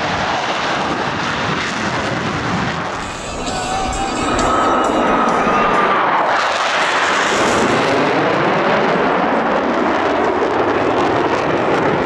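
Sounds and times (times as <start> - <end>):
jet passing low: 0.0 - 12.0.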